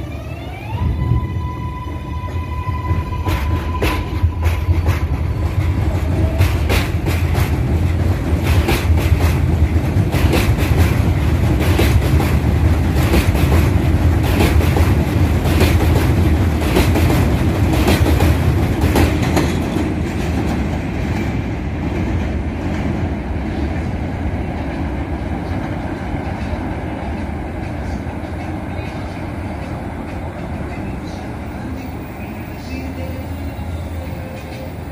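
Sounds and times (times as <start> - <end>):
subway train rumbling: 0.0 - 34.9.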